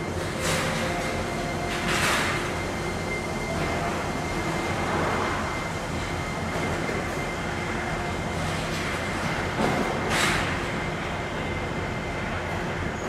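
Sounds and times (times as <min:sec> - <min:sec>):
people-mover train rumbling with whine: 0:00.0 - 0:13.0.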